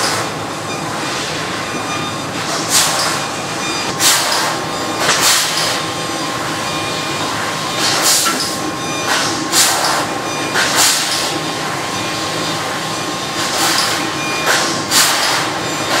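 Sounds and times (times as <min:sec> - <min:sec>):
laser cutting machine hum: 0:00.0 - 0:16.0.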